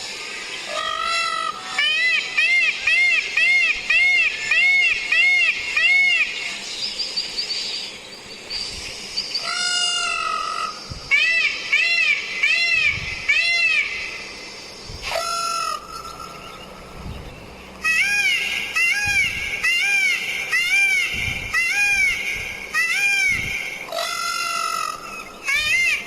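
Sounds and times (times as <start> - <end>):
peacock calling: 0.6 - 6.6, 9.4 - 14.4, 15.0 - 17.1, 17.7 - 26.0.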